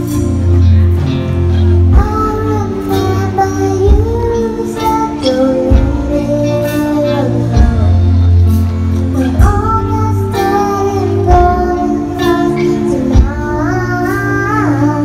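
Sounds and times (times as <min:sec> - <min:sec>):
bass guitar: 0:00.0 - 0:15.0
girl singing into microphone: 0:01.9 - 0:08.2, 0:09.1 - 0:15.0.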